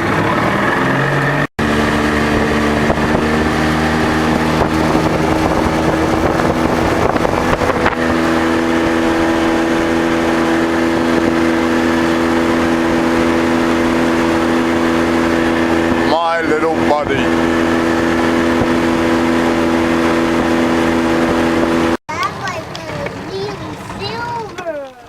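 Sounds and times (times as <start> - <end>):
outboard motor running: 0.0 - 25.0
water noise: 0.0 - 25.0
wind: 0.0 - 25.0.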